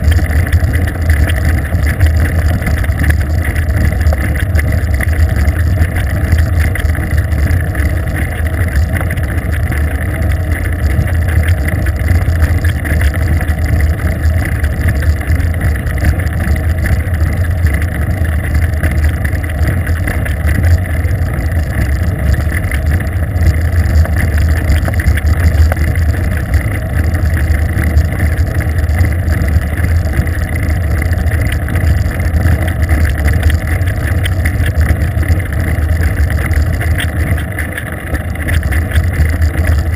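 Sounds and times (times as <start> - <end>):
bicycle road noise: 0.0 - 39.9
wind rumble on microphone: 0.0 - 39.9.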